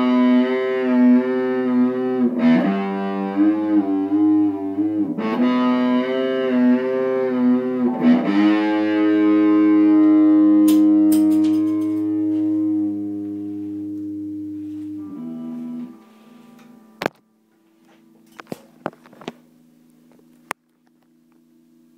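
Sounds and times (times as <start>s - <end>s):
electric guitar chords: 0.0s - 21.9s.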